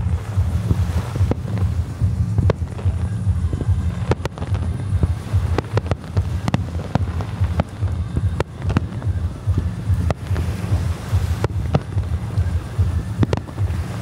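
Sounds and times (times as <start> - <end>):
fireworks bangs and cracks: 0.0 - 14.0
wind rumble on microphone: 0.0 - 14.0.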